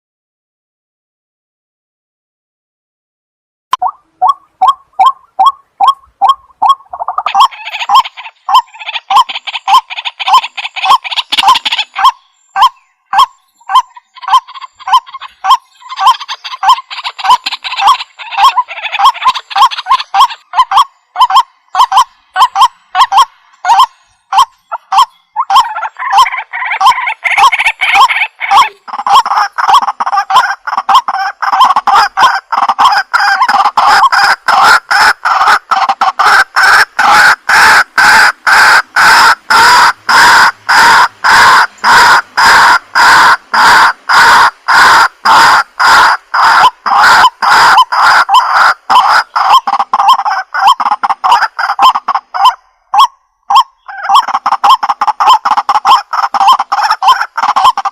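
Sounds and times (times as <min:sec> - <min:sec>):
waterhen repeated calls: 0:03.7 - 0:57.9
harsh chattering bird calls: 0:03.8 - 0:52.1, 0:53.5 - 0:57.9.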